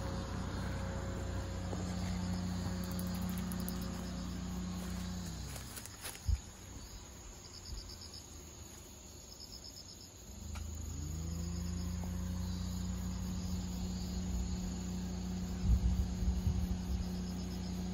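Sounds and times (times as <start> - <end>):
engine humming: 0.0 - 9.3, 10.1 - 17.9
high insect drone: 0.0 - 17.9
insects chirping: 0.0 - 17.9.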